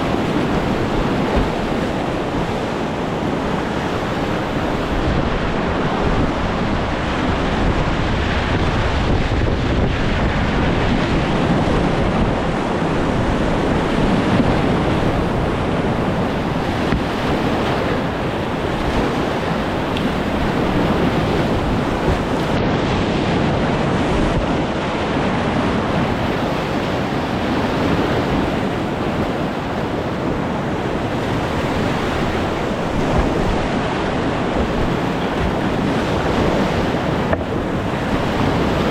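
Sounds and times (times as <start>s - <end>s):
river rapids rushing: 0.0s - 38.9s.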